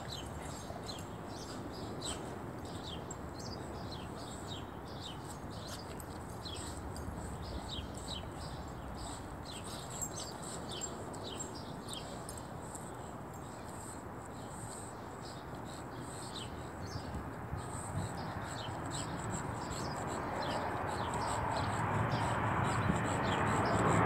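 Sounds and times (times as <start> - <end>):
small birds chirping: 0.0 - 24.0
steady outdoor hiss: 0.0 - 24.0.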